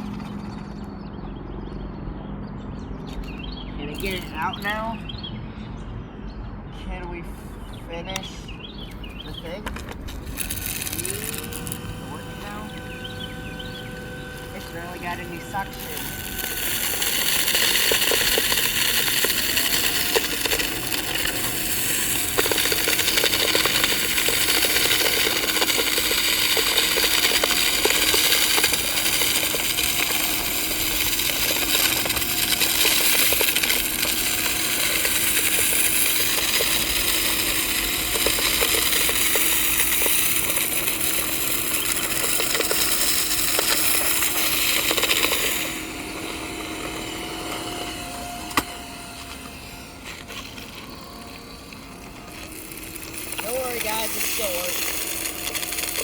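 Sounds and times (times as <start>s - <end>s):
vacuum motor whining: 0.0s - 1.9s, 2.8s - 5.2s, 7.4s - 56.0s
sand grains rattling: 3.9s - 4.8s, 9.2s - 56.0s.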